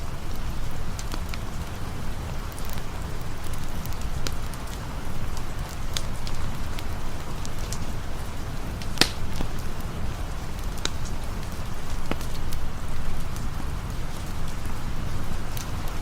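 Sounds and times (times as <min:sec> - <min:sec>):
campfire crackling: 0:00.0 - 0:16.0
steady rain: 0:00.0 - 0:16.0.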